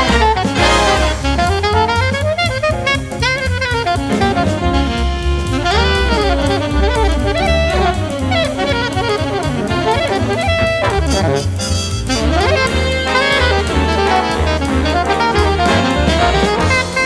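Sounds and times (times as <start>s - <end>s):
alto saxophone solo: 0.0s - 17.0s
bass: 0.0s - 17.0s
drum kit: 0.0s - 17.0s
horn section backing figures: 0.0s - 17.0s.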